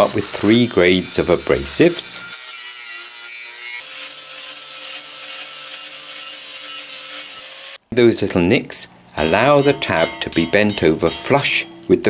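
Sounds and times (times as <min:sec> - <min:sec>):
angle grinder grinding steel: 0:00.0 - 0:07.8, 0:09.2 - 0:11.9.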